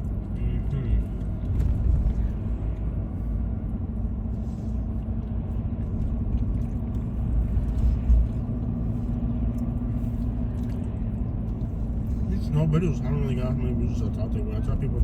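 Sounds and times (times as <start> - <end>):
low rumble of tyres and engine: 0.0 - 15.0.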